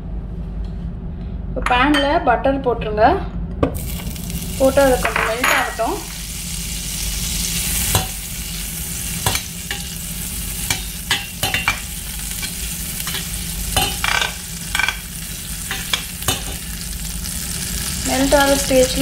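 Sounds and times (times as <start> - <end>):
butter sizzling in a frying pan: 3.8 - 19.0.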